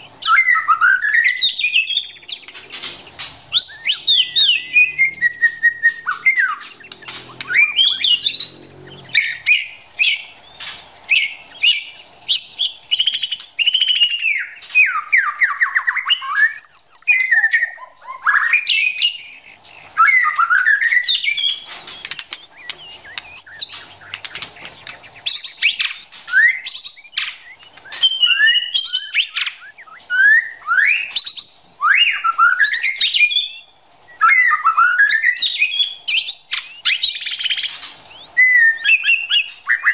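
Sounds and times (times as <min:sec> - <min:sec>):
bird singing whistled phrases: 0:00.2 - 0:02.5, 0:03.5 - 0:10.3, 0:11.1 - 0:19.4, 0:20.0 - 0:39.9.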